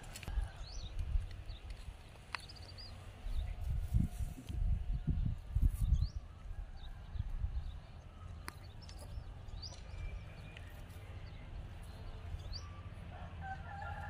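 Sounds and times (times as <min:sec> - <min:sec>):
small birds chirping: 0:00.4 - 0:13.0.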